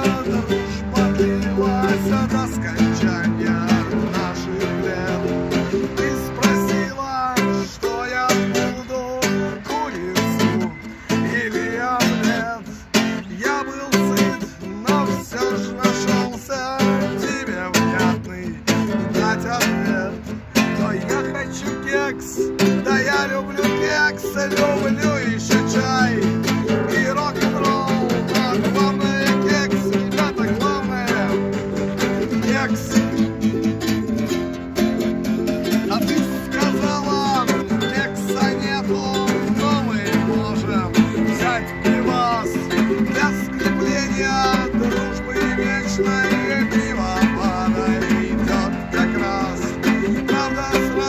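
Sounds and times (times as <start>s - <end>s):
acoustic guitar strumming: 0.0s - 51.0s
man singing: 0.0s - 51.0s
ukulele strumming: 0.0s - 51.0s.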